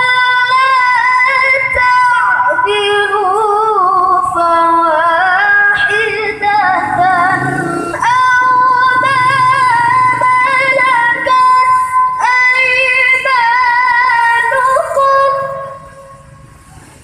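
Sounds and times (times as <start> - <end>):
woman reciting melodically: 0.0 - 16.2.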